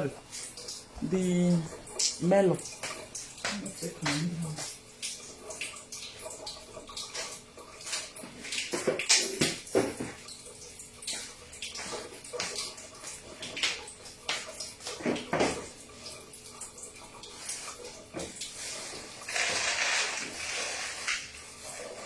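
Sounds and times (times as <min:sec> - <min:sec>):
water pouring: 0:00.0 - 0:22.0
water splashing in a bowl: 0:00.0 - 0:22.0.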